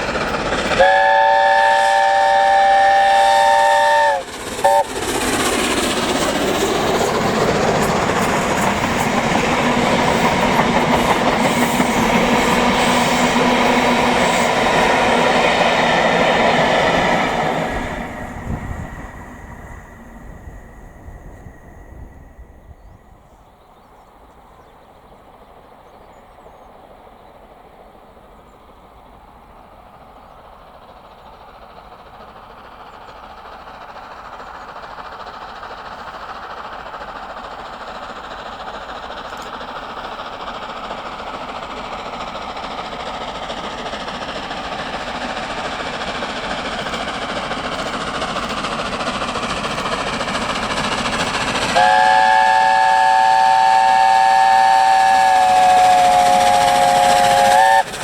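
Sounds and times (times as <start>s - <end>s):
steam train running noise: 0.0s - 58.0s.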